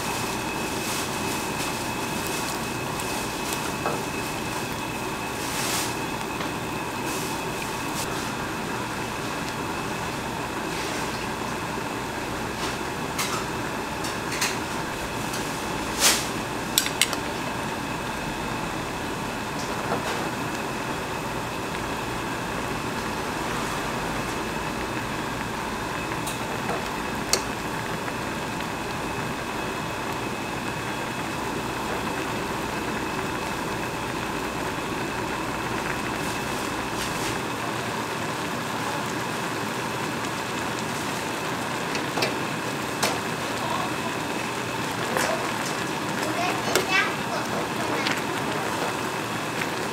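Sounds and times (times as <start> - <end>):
broth bubbling at a boil: 0.0 - 49.9.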